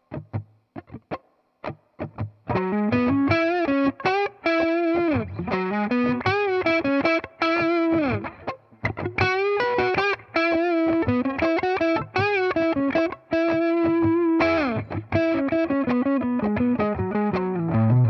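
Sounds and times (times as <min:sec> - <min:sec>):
distorted electric guitar lead: 0:02.0 - 0:18.0.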